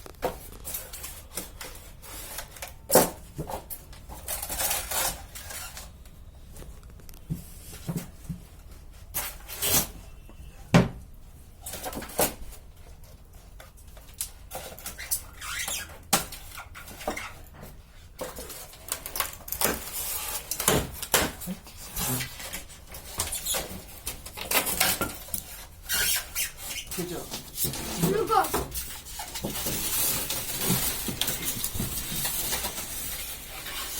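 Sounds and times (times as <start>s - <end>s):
plastic and cardboard rustling: 0.0s - 10.3s, 11.2s - 33.9s.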